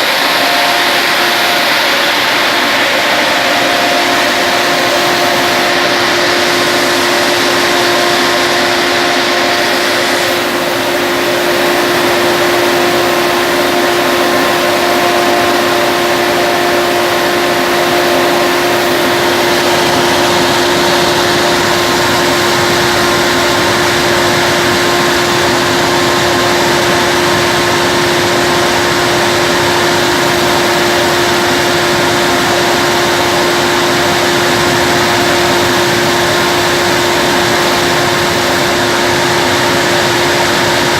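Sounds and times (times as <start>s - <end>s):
gas burner dryer roaring: 0.0s - 40.9s.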